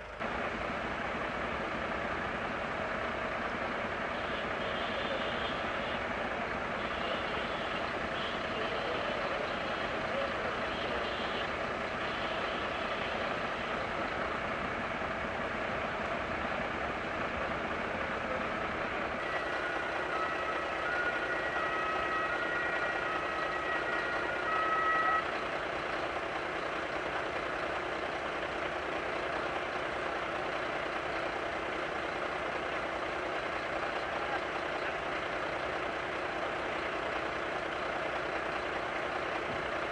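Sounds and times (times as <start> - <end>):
diesel engines idling: 0.0 - 39.9.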